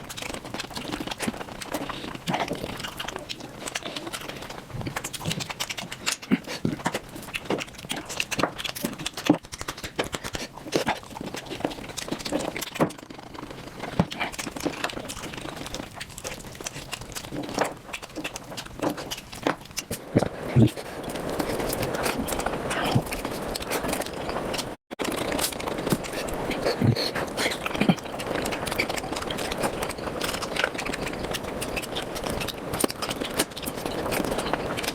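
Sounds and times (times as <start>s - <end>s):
wet chewing and lip smacks: 0.0s - 34.9s.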